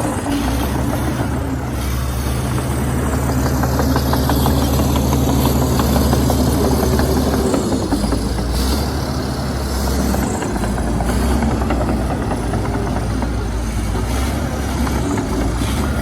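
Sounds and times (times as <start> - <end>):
bulldozer diesel engine: 0.0 - 16.0
rapid clatter of knocks: 0.0 - 16.0.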